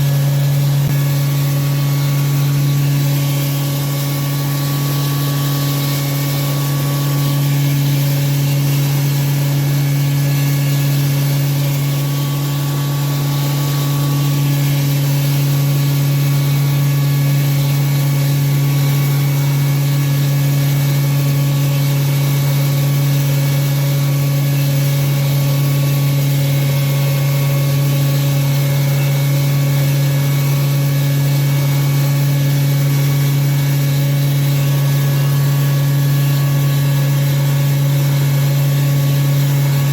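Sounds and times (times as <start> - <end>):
grinding mill humming: 0.0 - 39.9.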